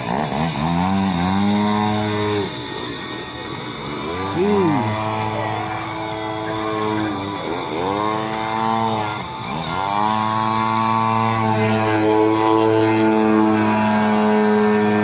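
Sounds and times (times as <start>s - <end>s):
model airplane engine at high revs: 0.0s - 15.0s.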